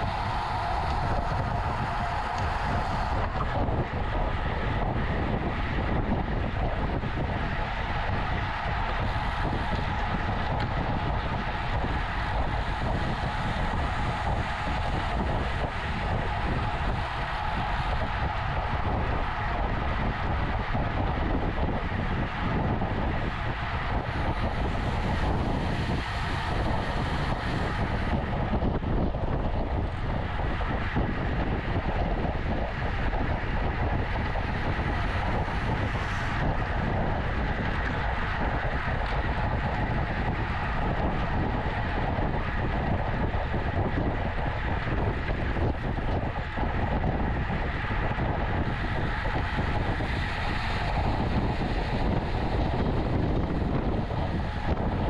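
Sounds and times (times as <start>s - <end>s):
bike road noise: 0.0s - 54.9s
wind rush: 0.0s - 55.0s.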